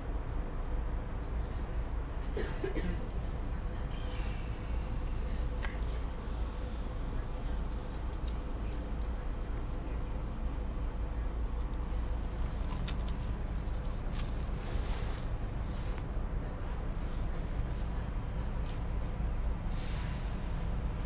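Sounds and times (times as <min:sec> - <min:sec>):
train car rumbling: 0:00.0 - 0:21.0.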